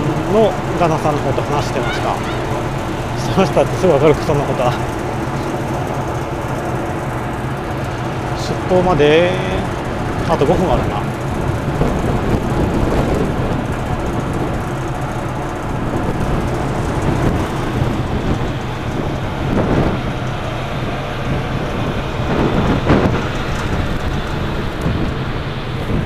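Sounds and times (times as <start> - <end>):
low hum from ship: 0.0 - 26.0
wind buffeting microphone: 0.0 - 26.0.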